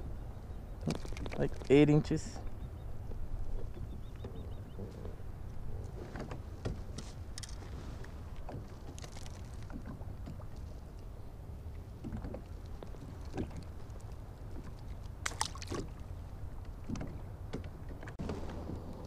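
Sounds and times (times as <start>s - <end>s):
waves lapping against kayak hull: 3.4s - 19.0s.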